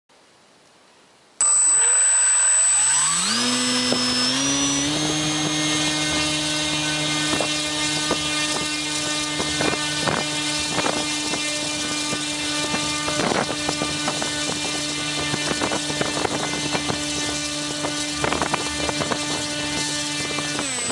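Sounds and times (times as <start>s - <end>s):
brushless motor spinning propeller: 1.4s - 20.9s.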